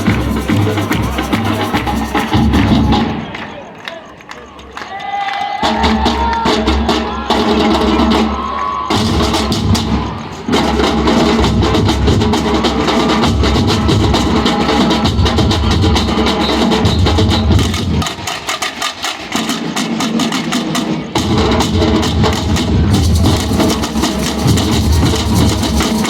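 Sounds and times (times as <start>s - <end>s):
samba drum ensemble: 0.0s - 3.6s, 4.9s - 26.0s.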